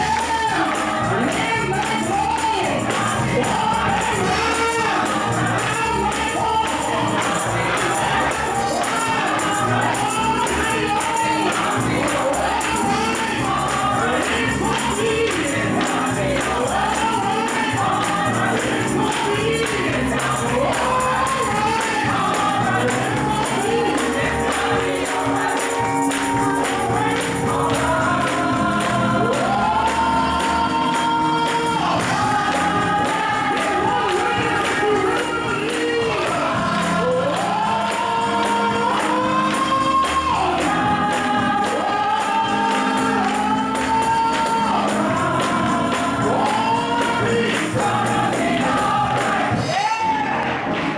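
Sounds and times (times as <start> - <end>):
tambourine shaking: 0.0 - 49.9
gospel choir singing: 0.0 - 50.9
hands clapping: 0.0 - 50.9.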